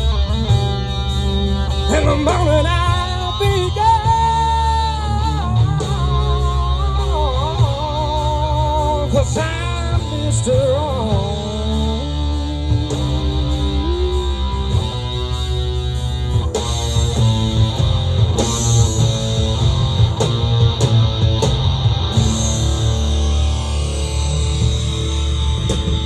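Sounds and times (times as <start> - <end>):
drum kit: 0.0 - 26.0.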